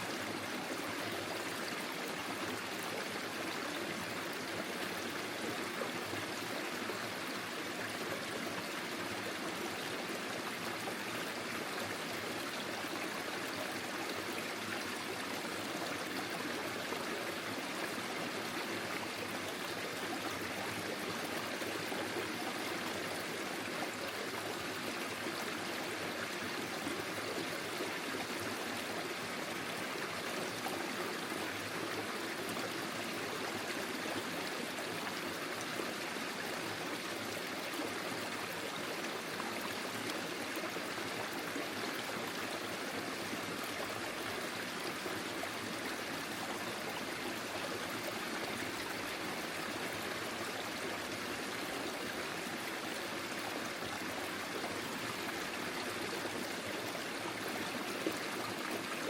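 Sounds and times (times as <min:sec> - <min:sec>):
forest stream trickling: 0:00.0 - 0:59.0.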